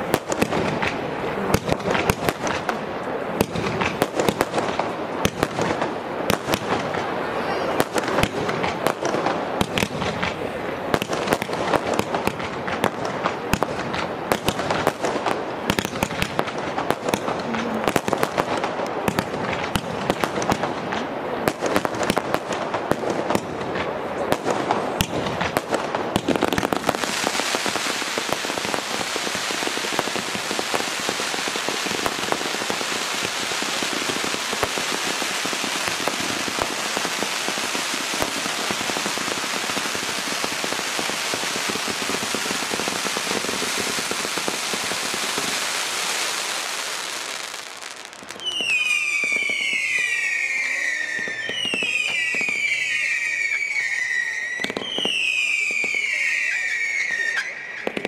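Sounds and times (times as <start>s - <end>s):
crackling fireworks stars: 0.0s - 58.0s
fireworks bursts and pops: 0.0s - 58.0s.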